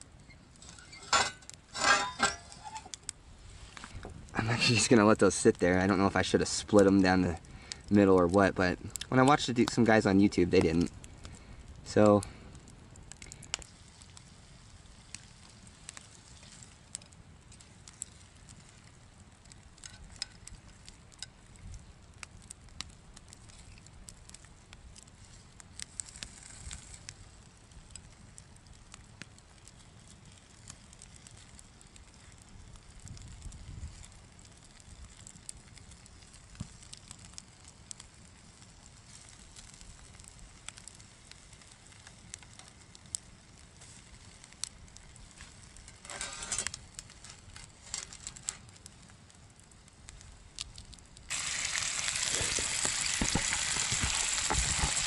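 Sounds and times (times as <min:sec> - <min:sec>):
campfire crackling and popping: 0:00.0 - 0:55.0
low rumble of flames: 0:00.0 - 0:55.0.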